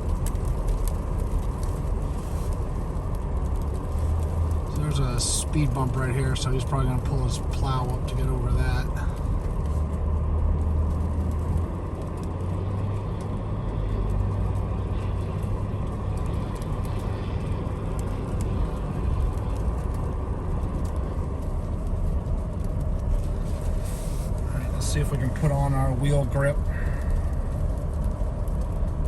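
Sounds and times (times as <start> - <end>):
car engine and road drone: 0.0 - 29.0
ice ticking on car body: 0.0 - 29.0.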